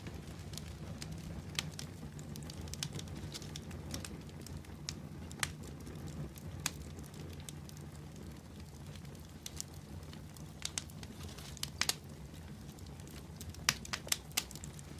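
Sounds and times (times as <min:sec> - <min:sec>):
fire crackling in fireplace: 0:00.0 - 0:14.9.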